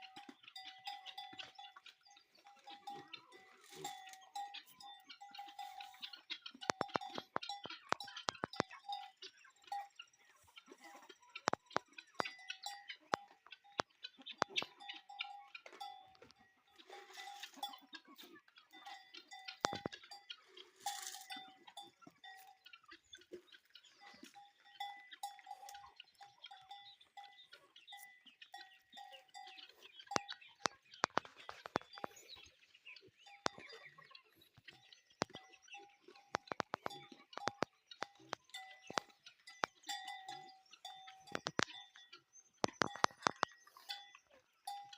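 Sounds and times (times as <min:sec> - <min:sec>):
livestock bells clanking: 0:00.0 - 0:44.9.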